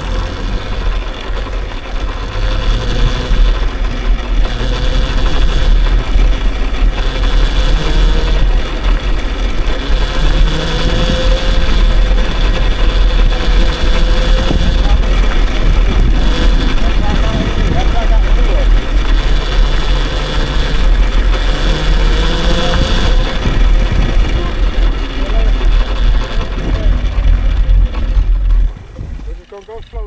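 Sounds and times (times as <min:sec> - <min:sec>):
thin whine: 0:00.0 - 0:30.0
wind buffeting microphone: 0:00.0 - 0:30.0.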